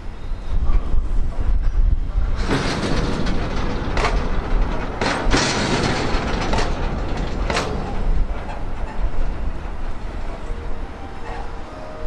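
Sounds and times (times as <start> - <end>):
freight train rumbling: 0.0 - 12.0
wheel clacks over rail joints: 0.7 - 12.0.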